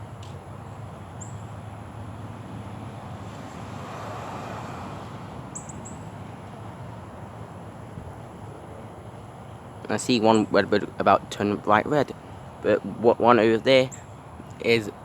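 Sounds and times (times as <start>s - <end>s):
distant road traffic hum: 0.0s - 15.0s
vehicle passing: 0.8s - 15.0s.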